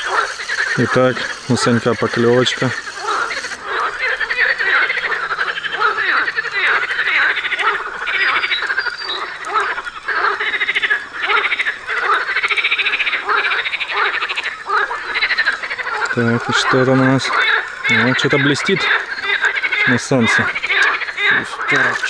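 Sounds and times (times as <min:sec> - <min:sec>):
frogs croaking in chorus: 0:00.0 - 0:22.0.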